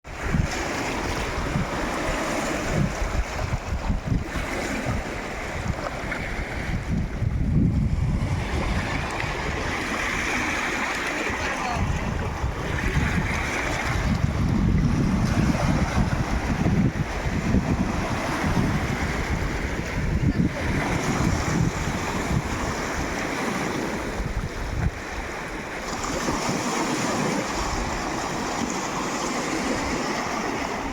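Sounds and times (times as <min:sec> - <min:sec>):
sea waves washing on shore: 0:00.0 - 0:30.9
wind buffeting microphone: 0:00.0 - 0:30.9.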